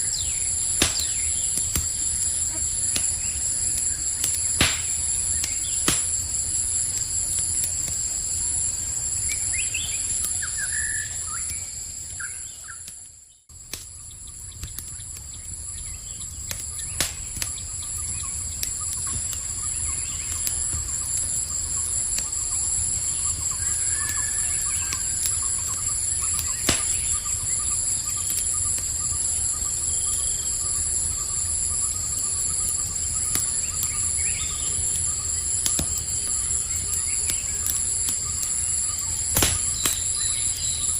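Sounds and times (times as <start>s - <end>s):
campfire crackling and popping: 0.0s - 40.9s
crickets trilling: 0.0s - 40.9s.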